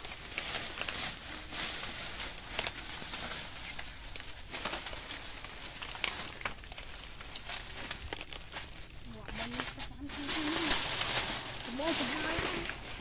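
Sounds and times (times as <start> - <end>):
dry leaves crackling underfoot: 0.0 - 13.0.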